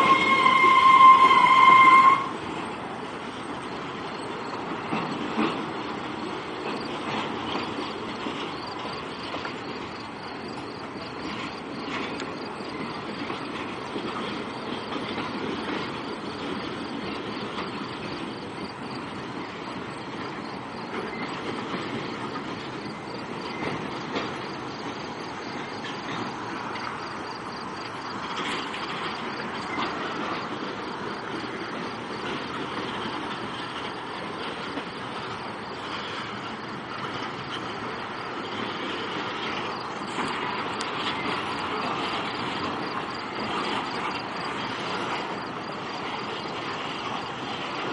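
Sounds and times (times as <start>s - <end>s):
train wheels on rails: 0.0s - 47.9s.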